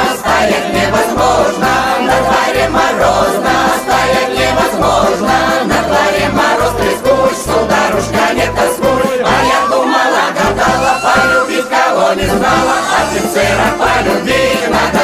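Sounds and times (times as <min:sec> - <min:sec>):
choir singing folk song: 0:00.0 - 0:15.0.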